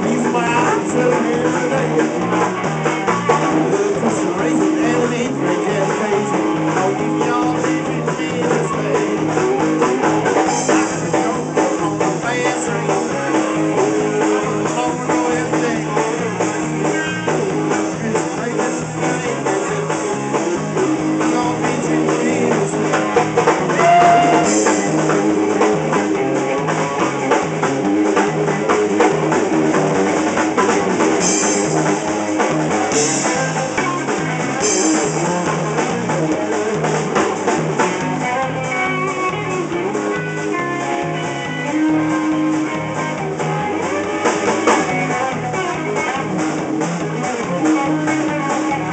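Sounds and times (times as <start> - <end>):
drum kit: 0.0 - 48.9
electric bass: 0.0 - 48.9
electric guitar: 0.0 - 48.9.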